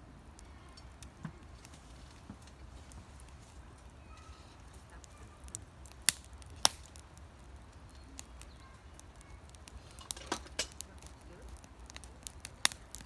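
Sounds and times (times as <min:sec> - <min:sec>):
campfire burning: 0:00.0 - 0:13.0
sharp pops from burning wood: 0:00.2 - 0:13.0.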